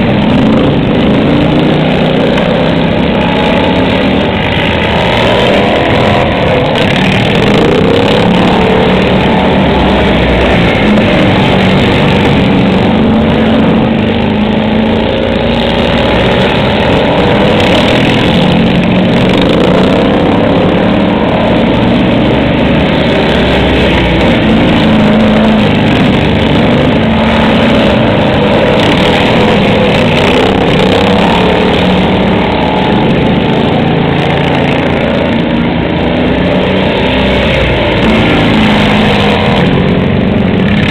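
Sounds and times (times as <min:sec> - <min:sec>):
racing lawn mower engines: 0:00.0 - 0:40.9.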